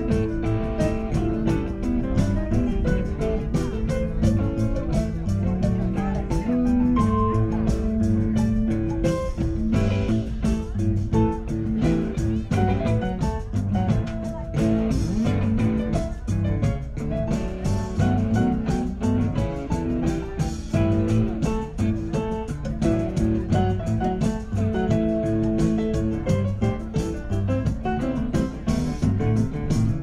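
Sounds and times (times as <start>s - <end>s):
electric guitar: 0.0s - 30.0s
live rock band playing: 0.0s - 30.0s.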